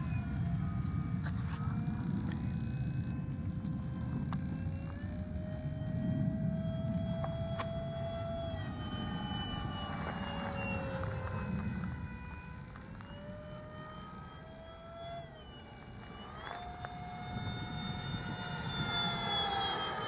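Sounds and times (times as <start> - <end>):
model jet fan whining overhead: 0.0 - 20.0.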